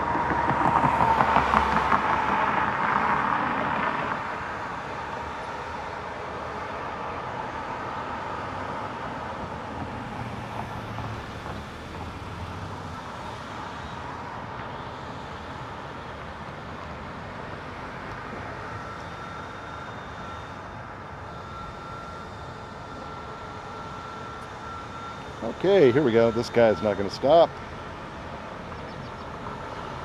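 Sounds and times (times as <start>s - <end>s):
passing car engine and tyres: 0.0s - 30.0s
steady hum of traffic: 0.0s - 30.0s.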